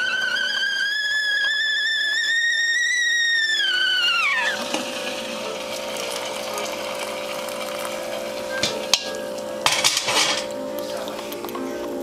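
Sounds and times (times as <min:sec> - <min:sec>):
stovetop kettle whistling: 0:00.0 - 0:11.0
boiling water pouring into bowl: 0:00.0 - 0:12.0.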